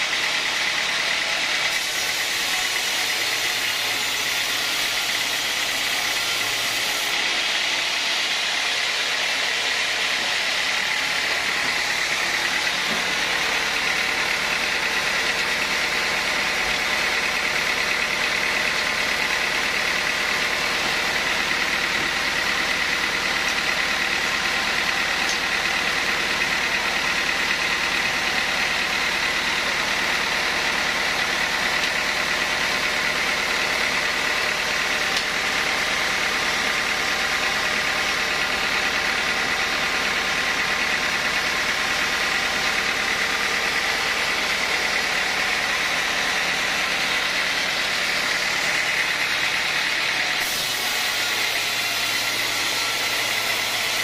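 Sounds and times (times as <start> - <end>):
band saw running with high whine: 0.0 - 54.0.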